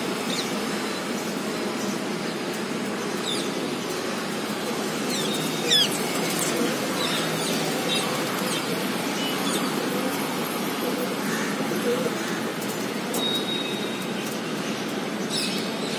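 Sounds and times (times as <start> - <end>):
low hum of city traffic: 0.0 - 15.9.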